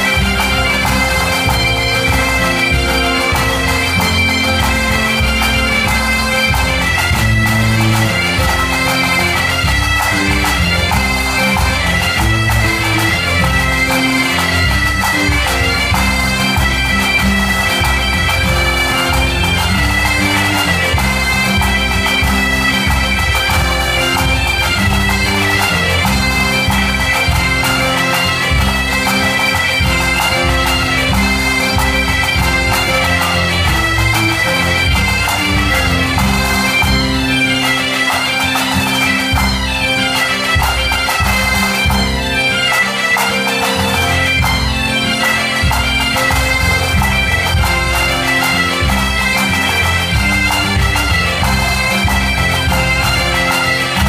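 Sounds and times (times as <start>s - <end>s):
bagpipes playing dance tune: 0.0s - 54.0s
drum beat: 0.0s - 54.0s
guitar: 0.0s - 54.0s.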